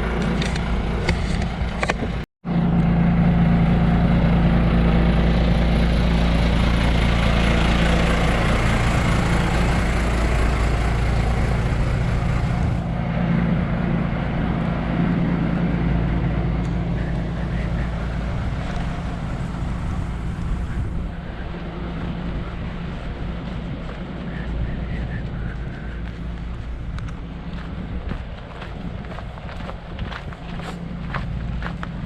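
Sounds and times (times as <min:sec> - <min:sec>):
engine humming: 0:00.0 - 0:32.0.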